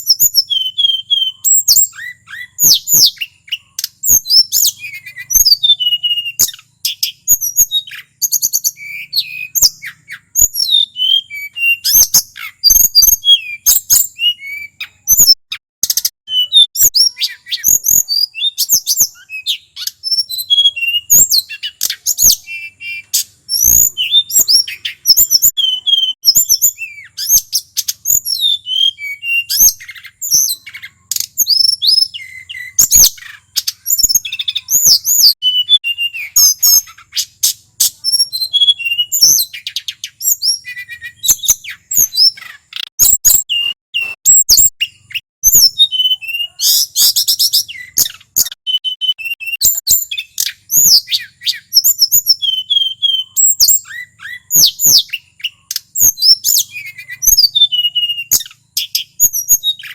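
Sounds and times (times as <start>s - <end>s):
bird singing with trills: 0.0s - 59.9s.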